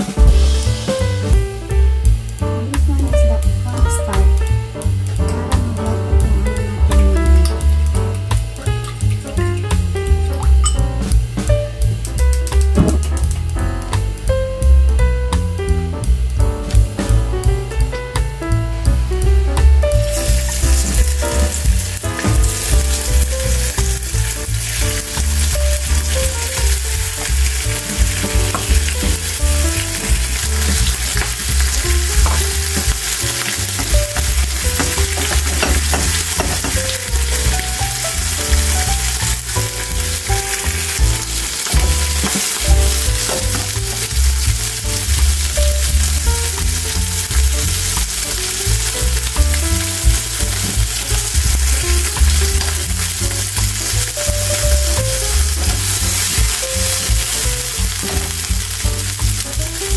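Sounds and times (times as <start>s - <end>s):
shrimp sizzling in hot oil: 0.0s - 17.1s, 18.8s - 59.9s.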